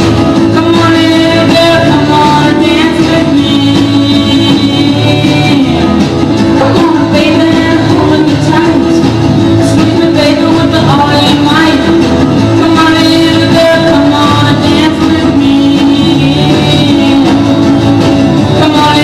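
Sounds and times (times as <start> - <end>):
rock and roll band with singer: 0.0 - 19.0.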